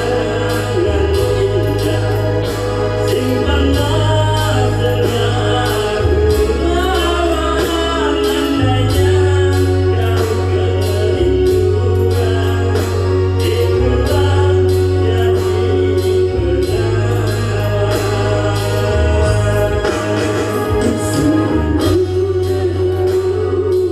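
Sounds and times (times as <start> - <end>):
deep bass line: 0.0 - 23.9
person singing: 0.0 - 23.9.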